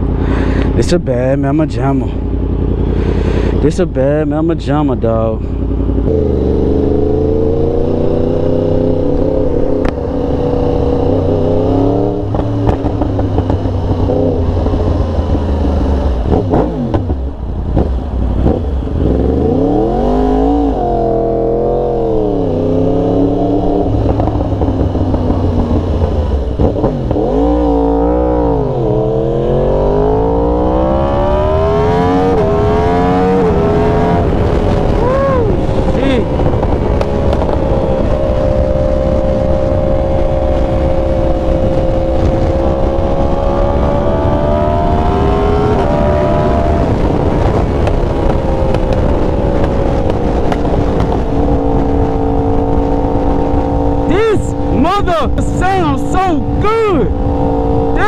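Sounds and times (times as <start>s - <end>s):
motorcycle accelerating through gears: 2.0s - 58.0s.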